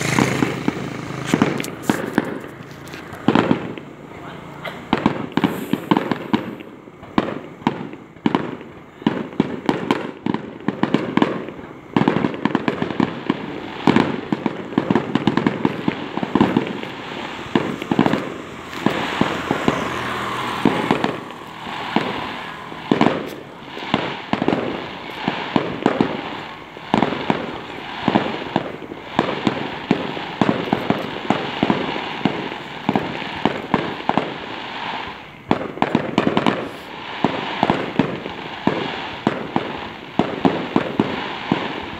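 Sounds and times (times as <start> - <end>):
fireworks bangs and pops: 0.0 - 41.9
fireworks crackle: 0.0 - 41.9.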